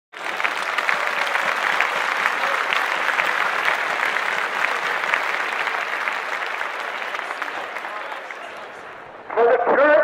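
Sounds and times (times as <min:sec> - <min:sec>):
audience applauding: 0:00.1 - 0:09.1.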